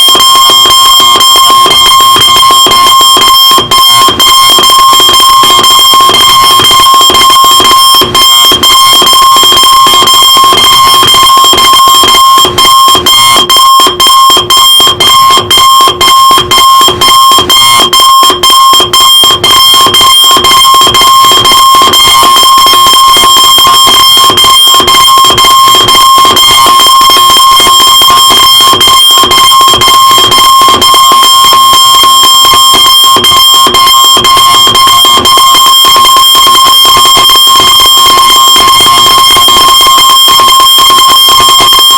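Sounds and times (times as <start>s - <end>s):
alarm clock buzzer: 0.0s - 41.9s.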